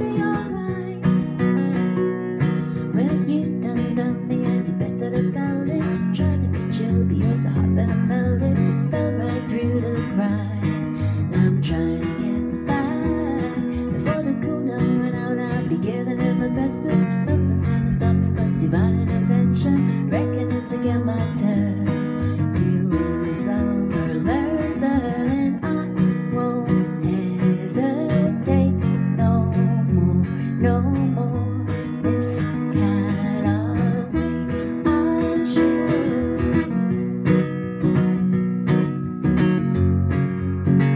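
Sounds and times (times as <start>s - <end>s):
woman singing: 0.0s - 37.1s
acoustic guitar strumming: 0.0s - 40.9s.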